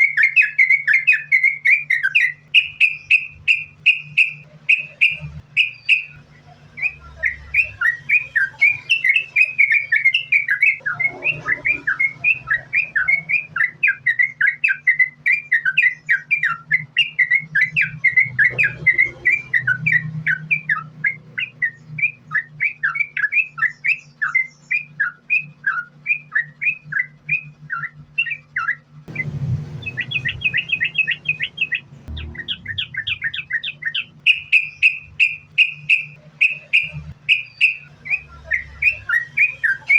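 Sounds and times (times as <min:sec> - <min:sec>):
bird singing chirping notes: 0:00.0 - 0:39.9
steady low hum: 0:00.0 - 0:39.9.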